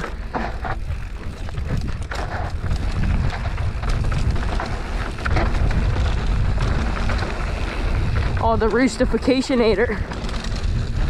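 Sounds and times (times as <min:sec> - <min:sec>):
bike clicks and rattles: 0:00.0 - 0:11.0
tyres crunching over stones: 0:00.0 - 0:11.0
wind buffeting microphone: 0:00.0 - 0:11.0.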